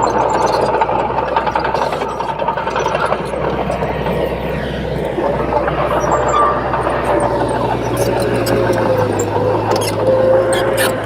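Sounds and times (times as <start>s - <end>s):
bulldozer diesel engine running: 0.0s - 11.0s
machine rattling and clicking: 0.0s - 11.0s.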